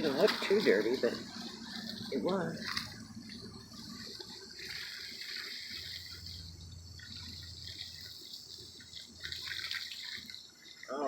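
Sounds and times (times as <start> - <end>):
garden hose spraying water: 0.0 - 11.0
water splashing and trickling: 0.0 - 11.0.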